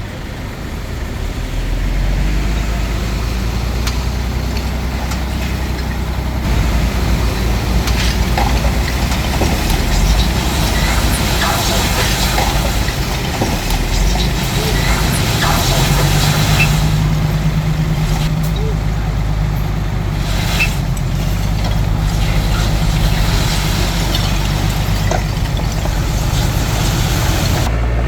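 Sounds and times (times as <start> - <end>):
diesel engine running under load: 0.0 - 28.0
rock clanking and scraping: 3.8 - 27.7.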